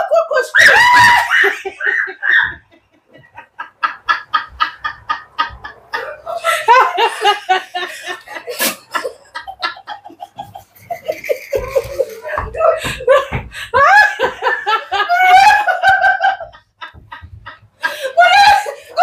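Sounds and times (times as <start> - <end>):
women laughing hard: 0.0 - 19.0.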